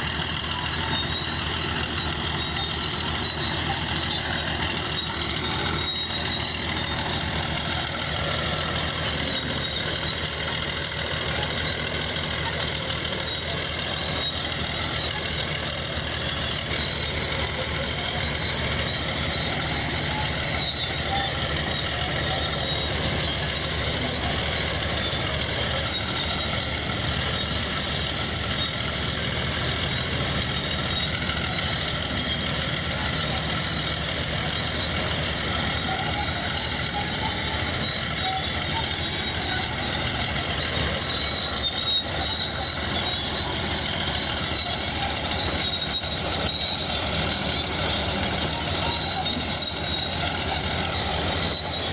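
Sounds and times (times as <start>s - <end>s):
heavy machine low rumble: 0.0s - 51.9s.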